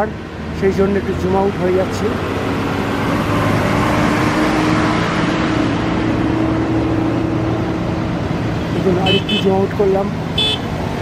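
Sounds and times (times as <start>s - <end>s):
continuous rushing noise: 0.0s - 11.0s
vehicle engine humming: 0.0s - 11.0s.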